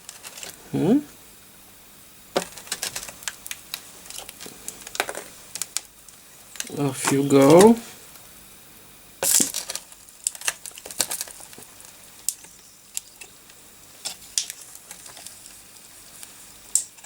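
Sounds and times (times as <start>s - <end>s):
molten solder crackling: 0.0s - 17.0s.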